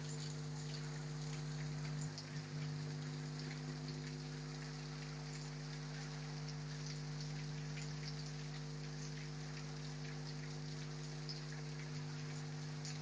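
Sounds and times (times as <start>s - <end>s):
raindrops ticking on surfaces: 0.0s - 13.0s.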